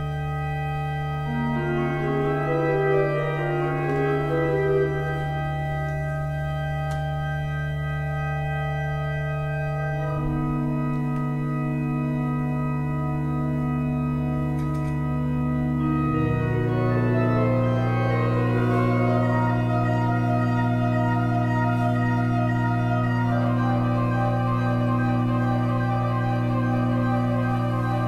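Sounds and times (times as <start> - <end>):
electronic organ chords: 0.0 - 28.0.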